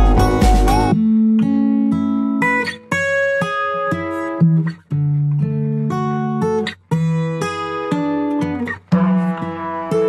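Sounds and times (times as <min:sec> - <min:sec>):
plucked acoustic guitar music: 0:00.0 - 0:10.0.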